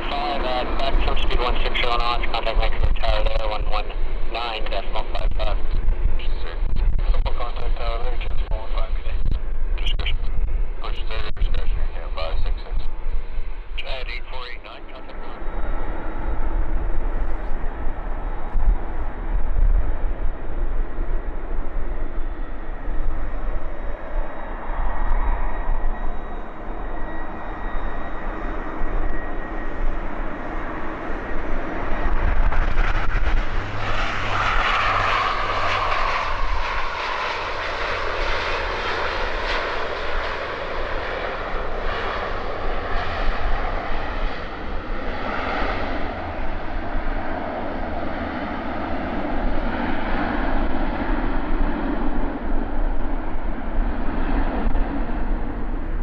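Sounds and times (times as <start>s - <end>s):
jet engines passing close: 0.0s - 56.0s.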